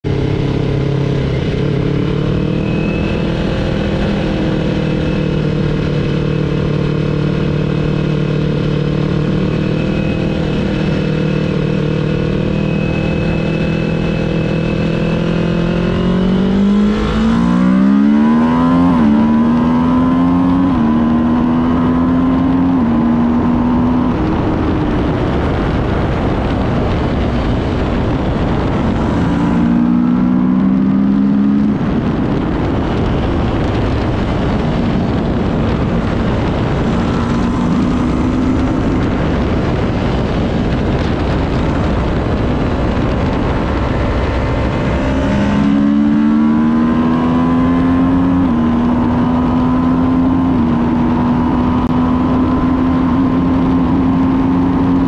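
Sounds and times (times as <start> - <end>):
motorcycle engine revving: 0.0 - 55.0
wind noise: 0.0 - 55.0.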